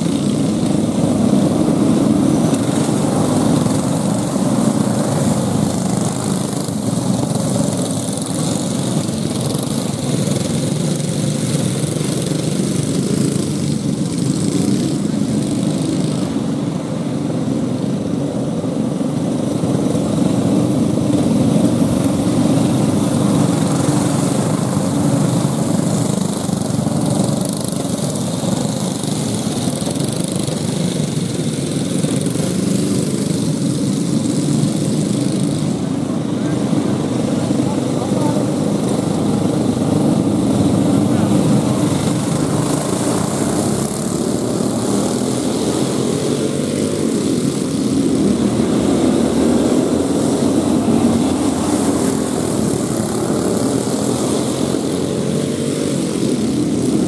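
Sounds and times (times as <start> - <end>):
go-kart engines droning: 0.0 - 57.0.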